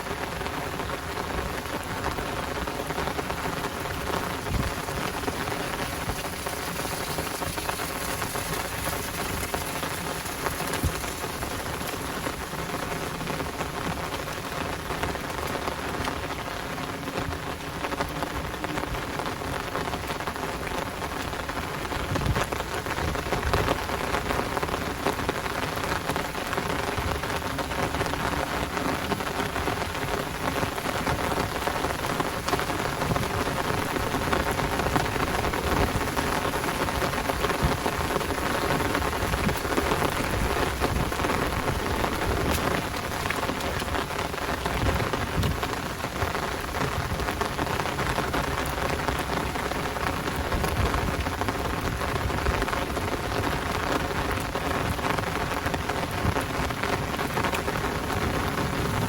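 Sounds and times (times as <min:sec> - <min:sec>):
heavy rain hissing: 0:00.0 - 0:59.0
raindrops pattering: 0:00.0 - 0:59.0
thunder rumbling: 0:01.2 - 0:15.9, 0:21.9 - 0:59.0.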